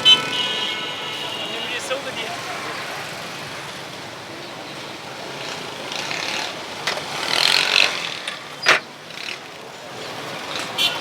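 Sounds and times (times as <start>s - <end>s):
traffic going by: 0.0s - 11.0s.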